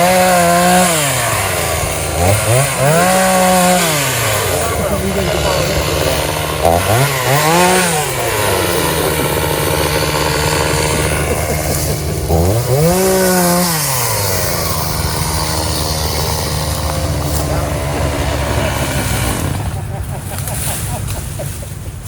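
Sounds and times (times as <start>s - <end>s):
chainsaw engine revving: 0.0s - 21.9s.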